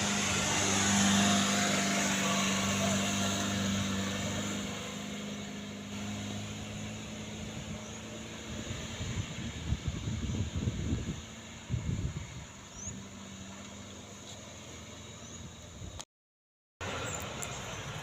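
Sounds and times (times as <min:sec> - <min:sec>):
truck diesel engine under load: 0:00.0 - 0:16.0, 0:16.8 - 0:18.0.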